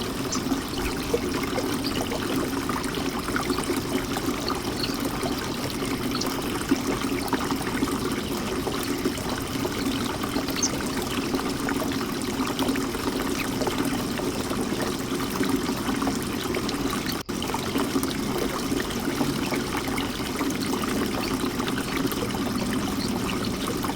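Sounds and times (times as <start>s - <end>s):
fountain water trickling and splashing: 0.0s - 23.9s.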